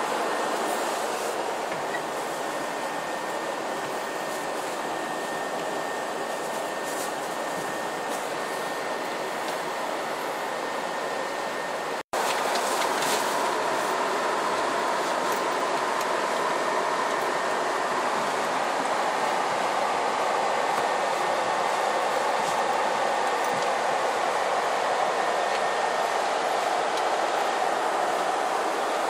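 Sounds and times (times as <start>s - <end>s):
coach engine and ventilation hum: 0.0s - 29.0s.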